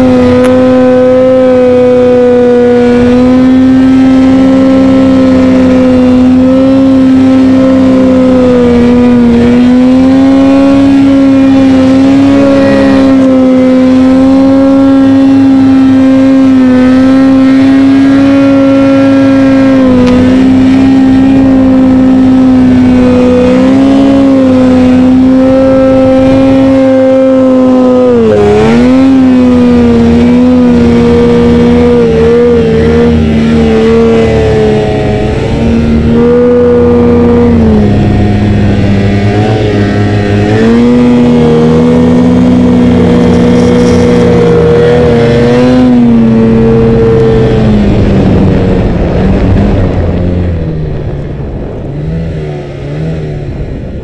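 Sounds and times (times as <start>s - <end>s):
snowmobile engine revving high: 0.0s - 54.0s.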